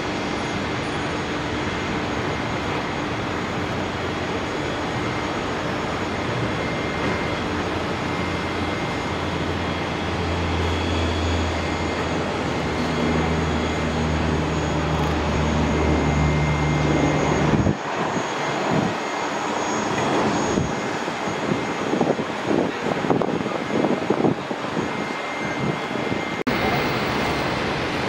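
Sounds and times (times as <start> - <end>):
turboprop plane taking off: 0.0 - 28.0.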